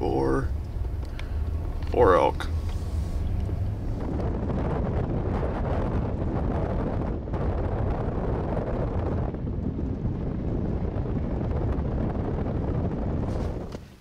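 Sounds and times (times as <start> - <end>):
vehicle driving rumble: 0.0 - 14.0
wind buffeting microphone: 0.0 - 14.0.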